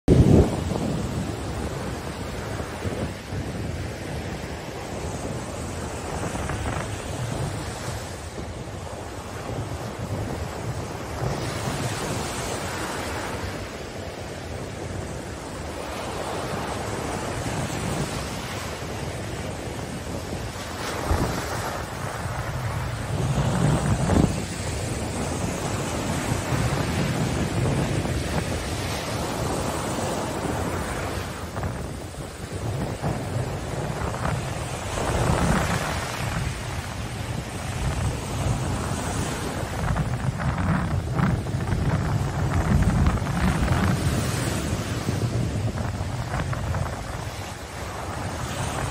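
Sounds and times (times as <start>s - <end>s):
surf washing over sand: 0.1s - 48.9s
wind rumble on microphone: 0.1s - 48.9s.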